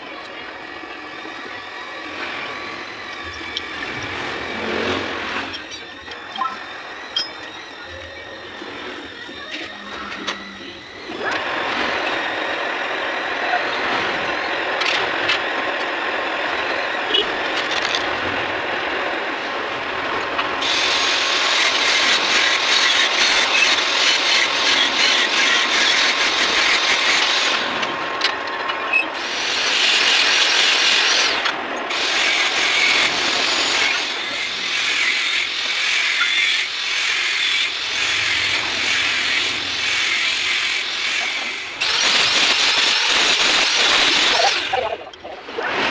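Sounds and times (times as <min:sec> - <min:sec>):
metal lathe cutting and scraping: 0:00.0 - 0:45.9.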